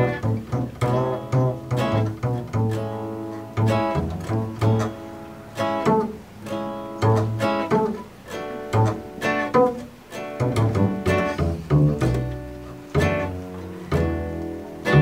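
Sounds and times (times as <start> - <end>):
acoustic guitar chords: 0.0 - 15.0
plucked double bass: 0.0 - 15.0.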